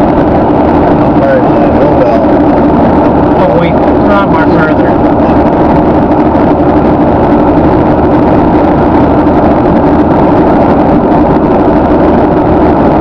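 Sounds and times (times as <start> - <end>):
low steady hum: 0.0 - 13.0
tyre and wind rush in car: 0.0 - 13.0.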